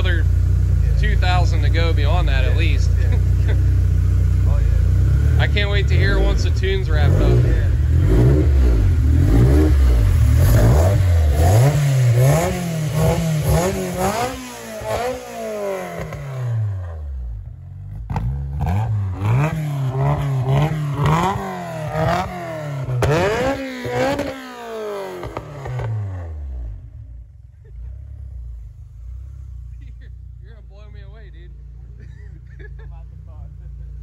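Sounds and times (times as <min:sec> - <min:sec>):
engine revving with throttle blips: 0:00.0 - 0:34.0.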